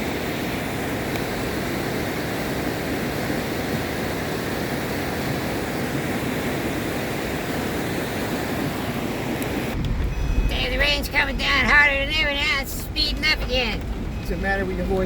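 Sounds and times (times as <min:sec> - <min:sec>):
flooded creek rushing: 0:00.0 - 0:14.9.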